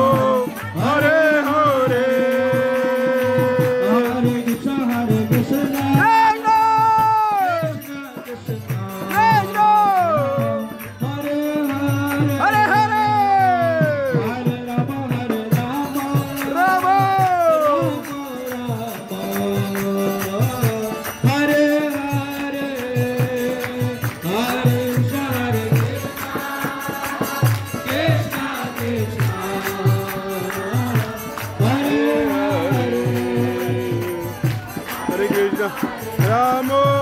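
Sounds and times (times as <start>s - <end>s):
group singing a chant: 0.0s - 37.0s
jingling hand percussion: 0.0s - 37.0s
steady drum beat: 0.0s - 37.0s.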